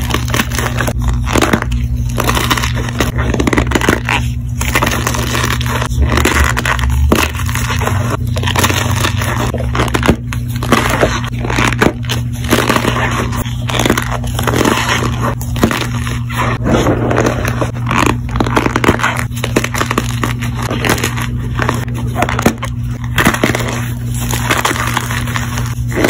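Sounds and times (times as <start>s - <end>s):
chalk crunching and cracking: 0.0s - 26.0s.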